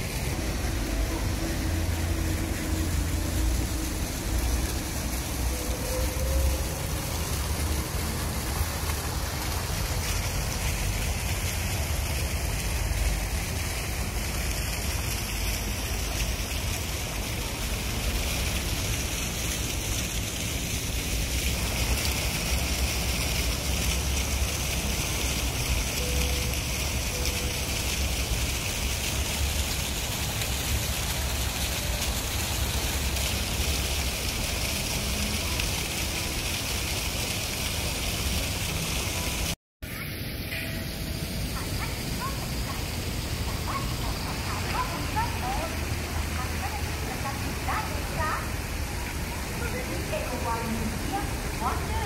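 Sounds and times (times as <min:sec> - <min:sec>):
water sprays hissing and splashing: 0:00.0 - 0:52.0.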